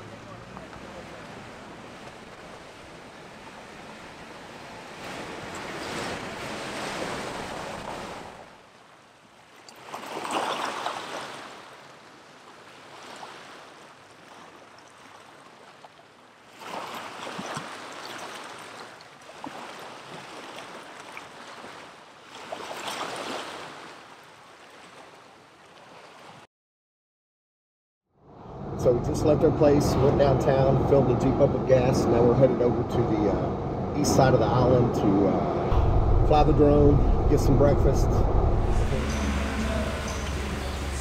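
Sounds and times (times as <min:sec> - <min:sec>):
sea waves breaking: 0:00.0 - 0:26.5, 0:28.3 - 0:41.0.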